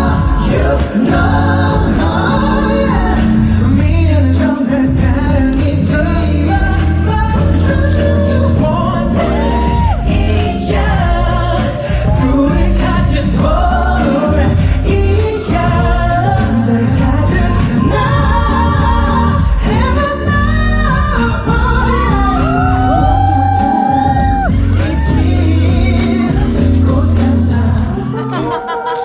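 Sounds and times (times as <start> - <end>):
man singing: 0.0 - 28.8
live band music: 0.0 - 29.0.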